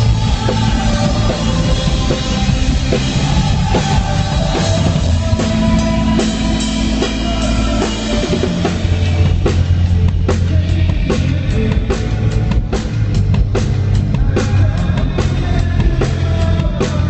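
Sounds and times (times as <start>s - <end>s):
drum kit with cymbals: 0.0s - 17.0s
rock band playing loudly: 0.0s - 17.0s
sustained bass notes: 0.0s - 17.0s.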